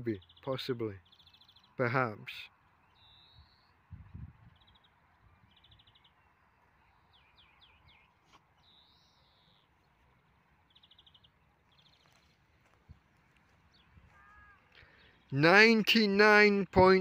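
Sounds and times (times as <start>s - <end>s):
small bird calls: 0.0s - 15.4s.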